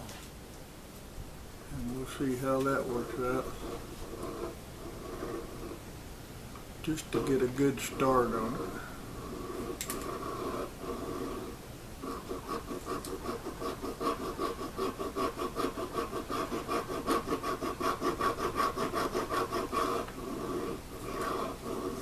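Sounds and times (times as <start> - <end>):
round file rasping on antler: 2.5 - 5.8, 7.2 - 22.0.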